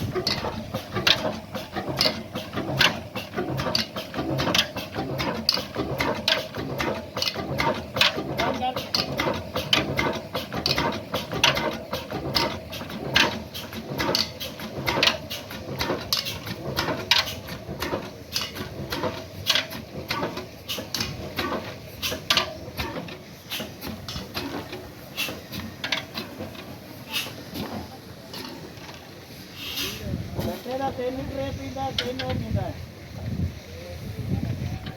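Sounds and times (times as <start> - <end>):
oil engine running and clattering: 0.0 - 34.9.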